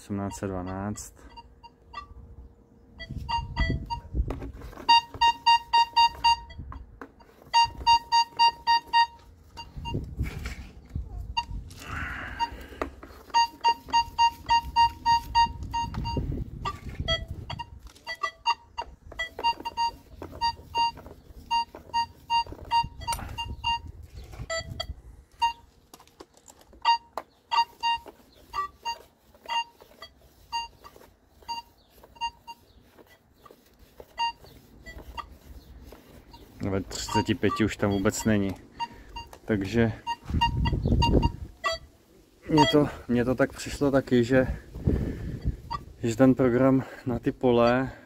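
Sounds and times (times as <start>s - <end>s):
metal detector beeps: 0.0s - 25.8s, 26.6s - 48.0s.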